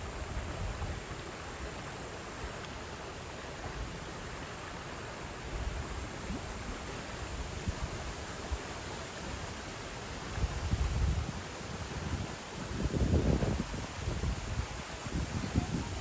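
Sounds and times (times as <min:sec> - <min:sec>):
stream flowing over stones: 0:00.0 - 0:16.0.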